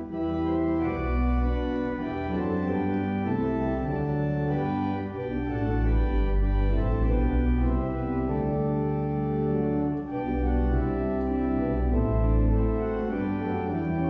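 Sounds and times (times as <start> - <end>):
organ playing a hymn: 0.0 - 14.0.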